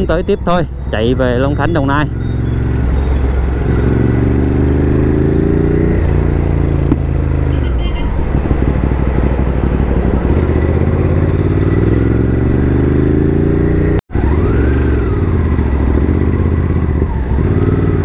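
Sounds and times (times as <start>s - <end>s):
motorcycle engine accelerating: 0.8s - 18.0s.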